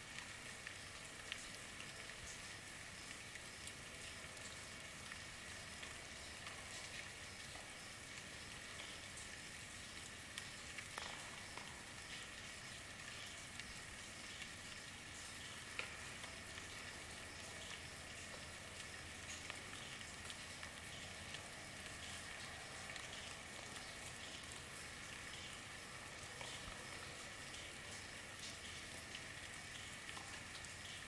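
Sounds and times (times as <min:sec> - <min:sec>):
raindrop ticks: 0:00.0 - 0:31.0
steady rain hiss: 0:00.0 - 0:31.0.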